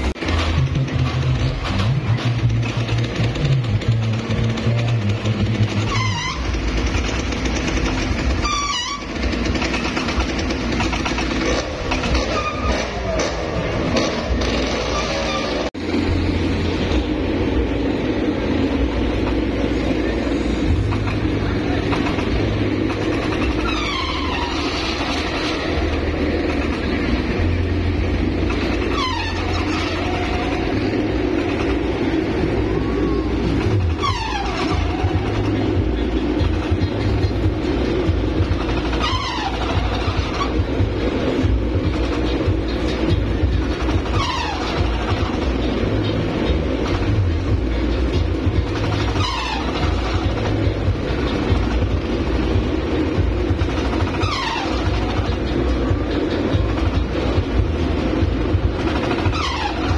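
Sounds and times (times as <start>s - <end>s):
loud steady din: 0.0s - 59.9s
swing ride rushing and rumbling: 0.0s - 59.9s.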